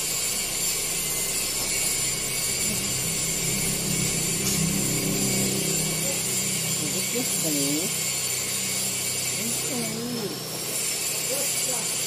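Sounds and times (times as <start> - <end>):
low hum: 0.0 - 10.6
welding torch flame hissing: 0.0 - 12.0.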